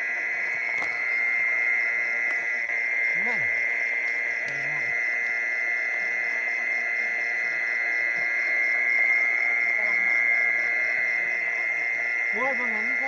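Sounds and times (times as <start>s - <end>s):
mole crickets trilling: 0.0s - 13.0s.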